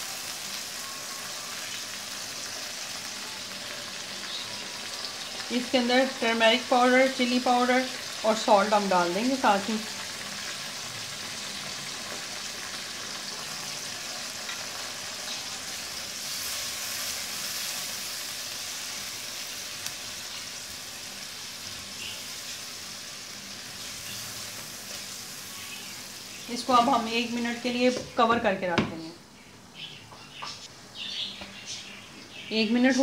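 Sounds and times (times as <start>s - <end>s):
chillies sizzling in oil: 0.0s - 33.0s.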